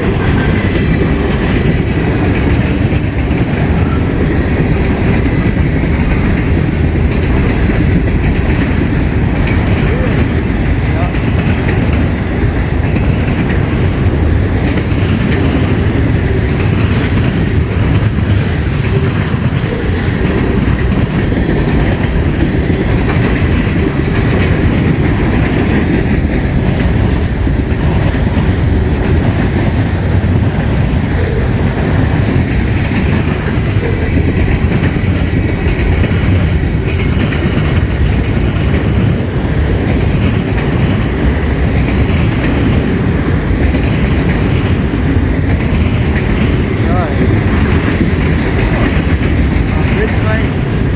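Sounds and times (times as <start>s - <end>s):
freight train wheels rumbling on track: 0.0s - 50.9s.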